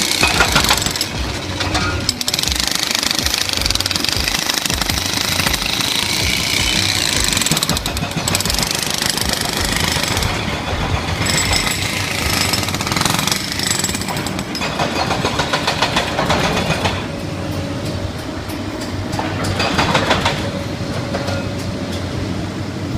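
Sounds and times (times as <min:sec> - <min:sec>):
hydraulic hammer pounding: 0:00.0 - 0:17.2, 0:19.2 - 0:21.5
excavator engine running: 0:00.0 - 0:22.6.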